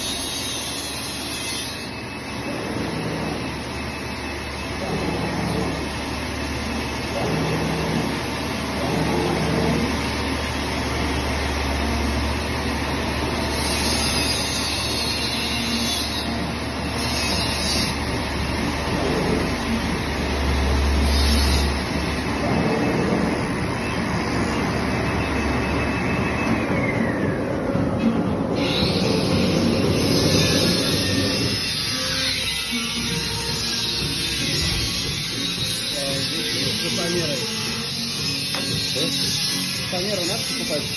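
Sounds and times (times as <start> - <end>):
cutting machine humming: 0.0 - 26.7, 27.8 - 40.9.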